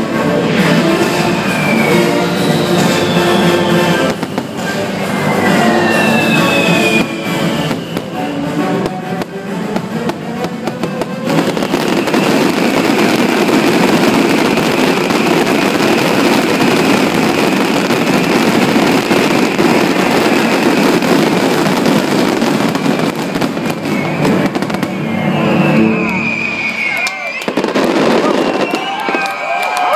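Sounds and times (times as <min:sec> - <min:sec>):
music: 0:00.0 - 0:29.5
fireworks bursting: 0:00.0 - 0:29.9.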